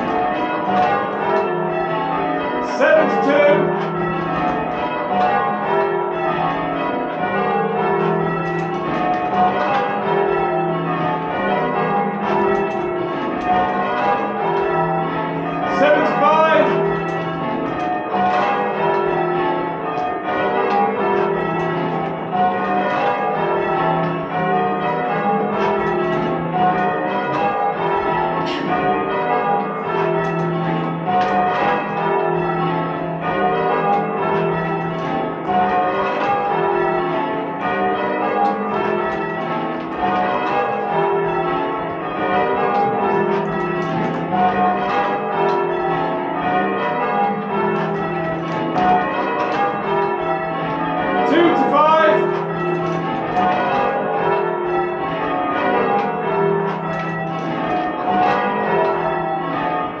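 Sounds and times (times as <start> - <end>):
church bells ringing: 0.0 - 60.0.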